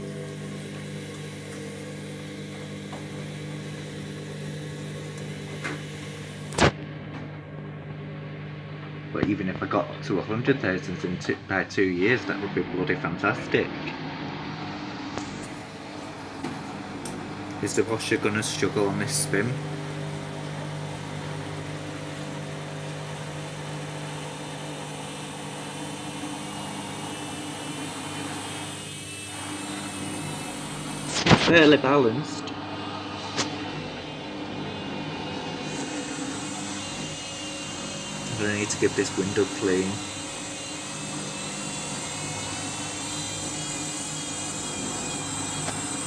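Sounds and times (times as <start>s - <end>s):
washing machine motor whine: 0.0s - 46.0s.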